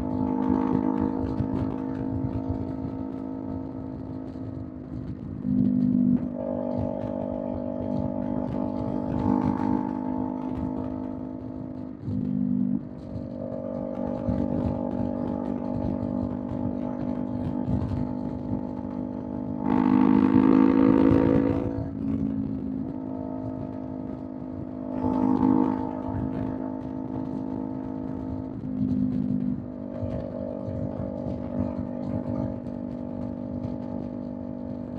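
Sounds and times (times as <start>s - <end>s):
motorcycle engine cruising: 0.0s - 34.9s.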